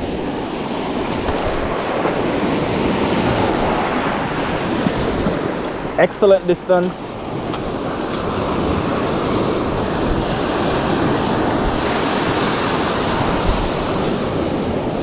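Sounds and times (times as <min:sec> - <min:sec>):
surf waves breaking on beach: 0:00.0 - 0:15.0
wind on microphone: 0:00.0 - 0:15.0.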